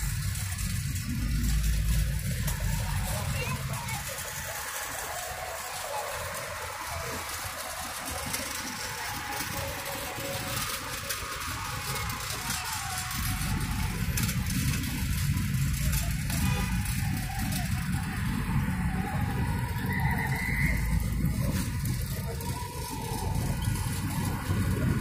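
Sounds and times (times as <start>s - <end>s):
cars driving through intersection: 0.0s - 25.0s.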